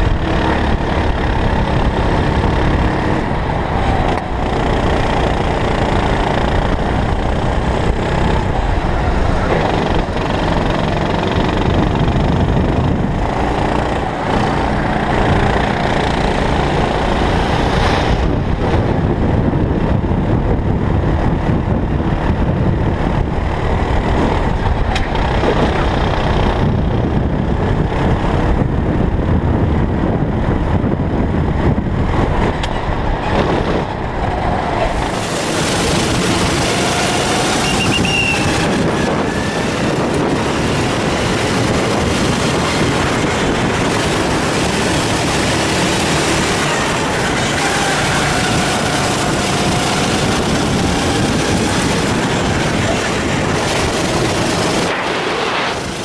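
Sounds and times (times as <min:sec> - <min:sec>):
kart engine running hard: 0:00.0 - 0:56.0
wind noise on microphone: 0:00.0 - 0:56.0.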